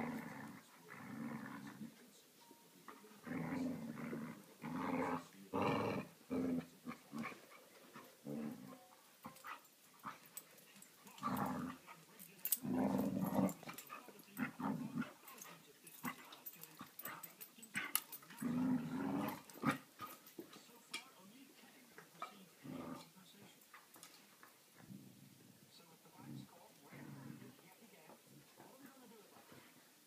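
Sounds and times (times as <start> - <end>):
dogs play-growling: 0.0 - 2.1, 2.8 - 20.6, 22.0 - 30.0.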